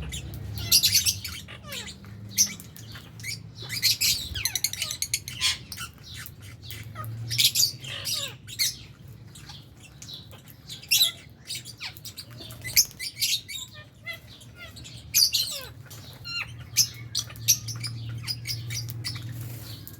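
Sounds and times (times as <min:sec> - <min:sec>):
lovebirds chirping and squawking: 0:00.0 - 0:19.9.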